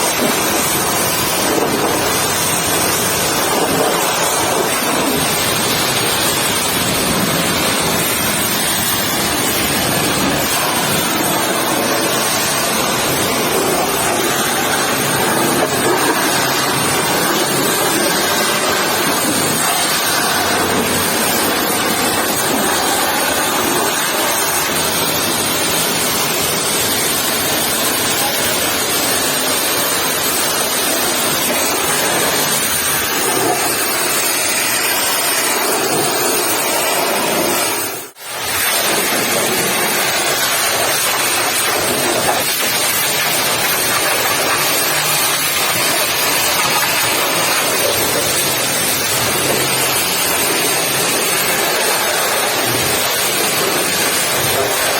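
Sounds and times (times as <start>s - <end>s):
pressure washer spraying water: 0.0s - 54.9s.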